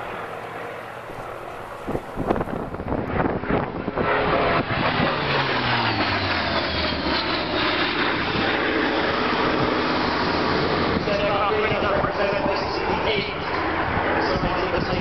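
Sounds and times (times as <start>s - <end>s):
propeller aircraft engine: 0.0s - 15.0s.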